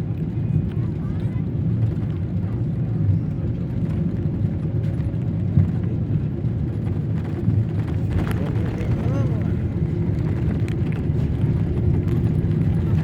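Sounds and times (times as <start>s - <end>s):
airliner cabin engine and airflow rumble: 0.0s - 13.0s.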